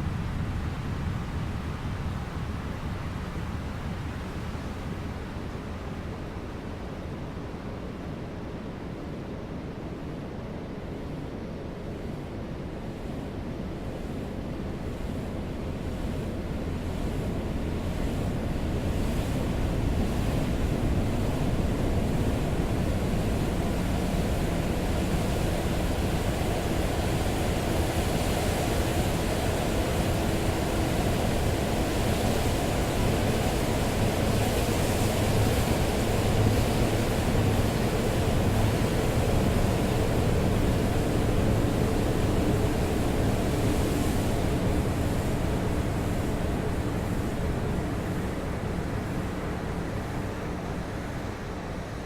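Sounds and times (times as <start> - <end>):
wind and surf noise: 0.0 - 52.0.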